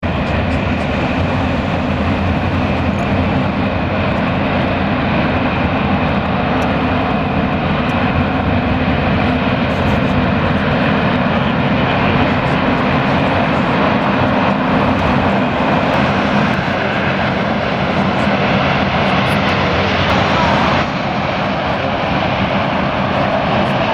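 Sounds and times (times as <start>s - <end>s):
faint engine whine: 0.0s - 23.9s
jet engines roaring: 0.0s - 23.9s.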